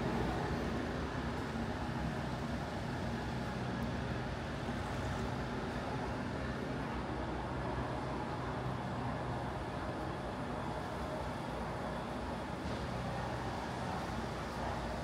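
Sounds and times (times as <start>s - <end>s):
traffic: 0.0s - 15.0s.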